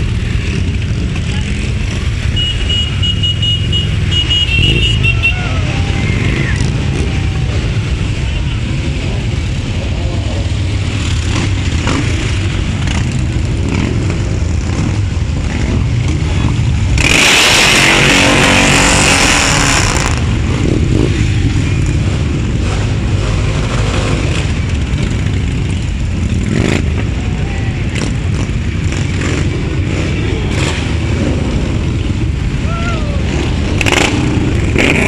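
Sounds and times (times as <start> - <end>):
motorcycle engines rumbling: 0.0 - 35.0.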